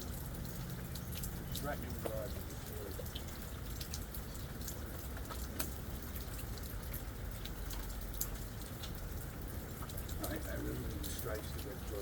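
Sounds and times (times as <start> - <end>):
rain hiss: 0.0 - 12.0
raindrop ticks: 0.0 - 12.0.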